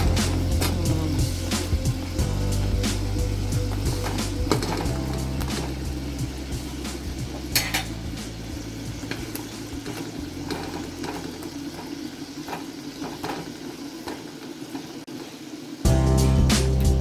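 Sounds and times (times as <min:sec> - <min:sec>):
crackles and pops: 0:00.0 - 0:15.1
sausages sizzling in a pan: 0:00.0 - 0:17.0.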